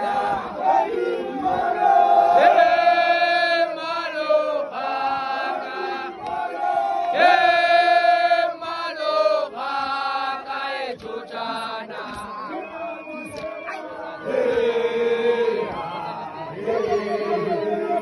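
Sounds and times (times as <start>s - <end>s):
crowd of men chanting: 0.0s - 18.0s.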